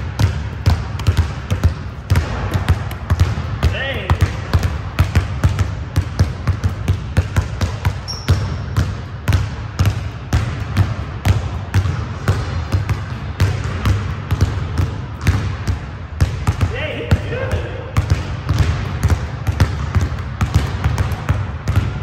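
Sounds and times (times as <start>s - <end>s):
basketball bouncing on court: 0.0s - 22.0s.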